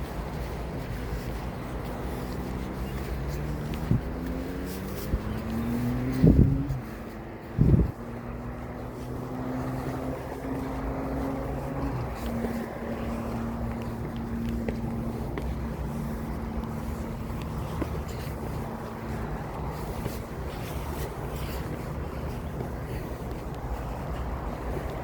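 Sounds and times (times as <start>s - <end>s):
motor engine droning: 0.9s - 25.0s.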